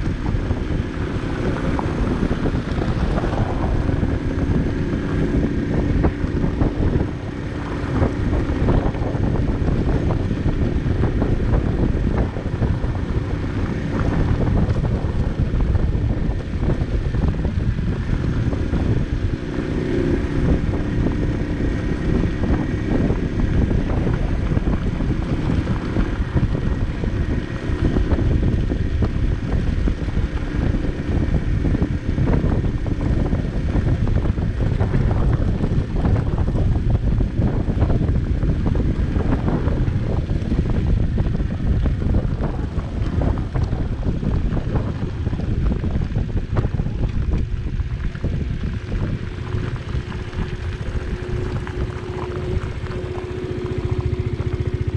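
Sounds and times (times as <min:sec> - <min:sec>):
moped engine humming: 0:00.0 - 0:54.9
tyres crackling over gravel: 0:00.0 - 0:54.9
wind noise on microphone: 0:00.0 - 0:54.9.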